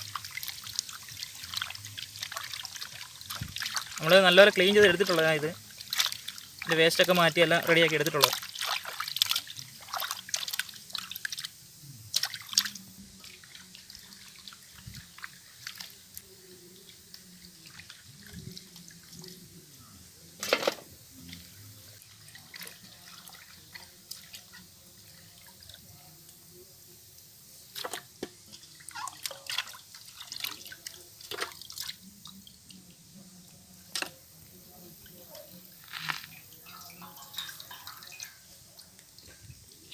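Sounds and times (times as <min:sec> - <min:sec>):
water splashes: 0:00.0 - 0:19.6, 0:20.4 - 0:26.6, 0:27.7 - 0:32.8, 0:33.9 - 0:39.9
water sloshing and dripping: 0:00.0 - 0:19.7, 0:20.4 - 0:26.4, 0:27.6 - 0:39.9.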